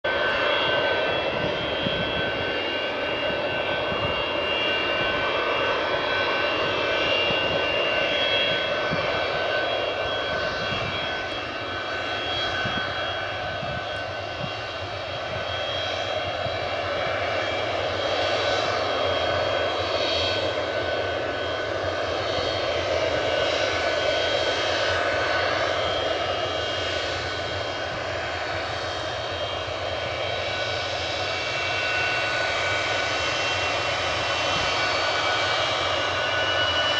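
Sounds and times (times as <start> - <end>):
jet engines whining: 0.1 - 36.9.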